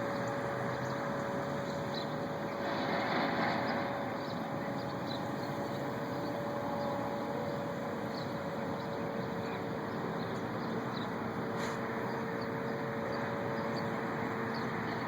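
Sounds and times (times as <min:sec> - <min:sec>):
distant rushing drone: 0:00.0 - 0:15.0.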